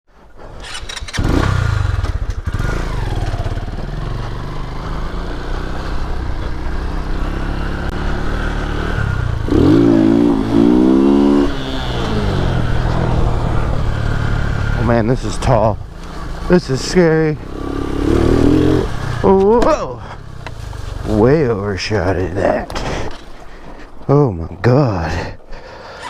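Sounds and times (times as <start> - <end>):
motorcycle engine revving: 0.4 - 23.0.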